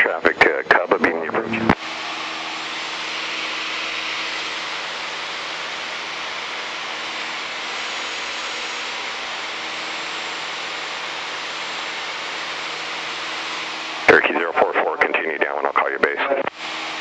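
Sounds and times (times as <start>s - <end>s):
airplane cockpit engine drone: 0.0s - 17.0s.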